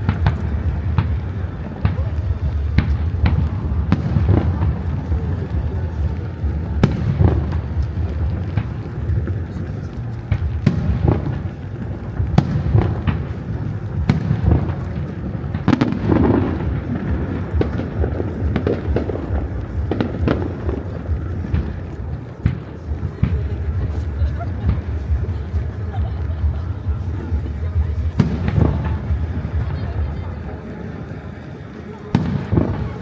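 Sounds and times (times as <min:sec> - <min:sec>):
fireworks bangs: 0:00.0 - 0:33.0
low rumble: 0:00.0 - 0:33.0.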